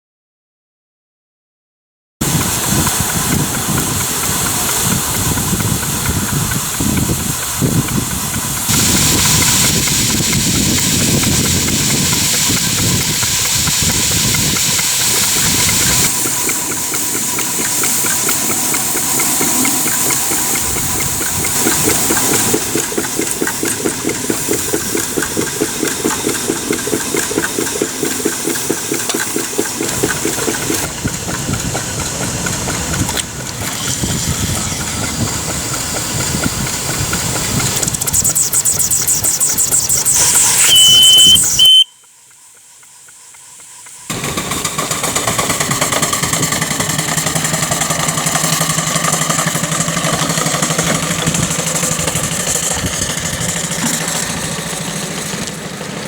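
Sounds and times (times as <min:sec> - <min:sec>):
steam engine chuffing: 0:02.2 - 0:56.0
steam hiss: 0:02.2 - 0:56.0.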